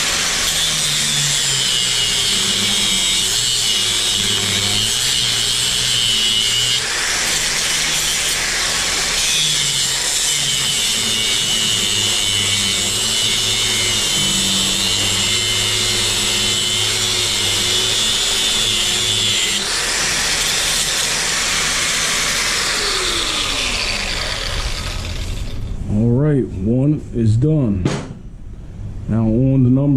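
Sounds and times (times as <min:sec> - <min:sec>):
electric drill boring: 0:00.0 - 0:25.7.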